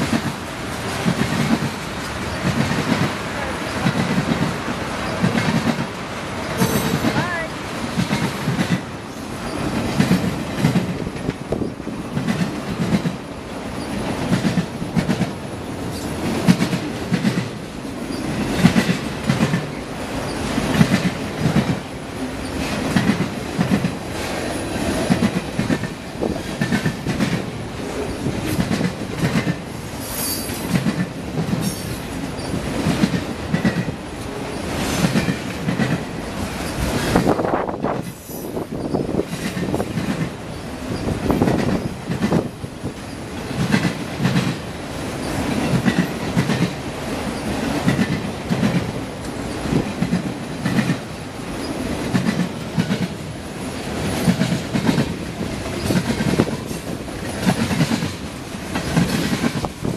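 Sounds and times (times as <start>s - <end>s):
train rolling rumble: 0.0s - 59.9s
train wheels clacking over joints: 0.0s - 59.9s.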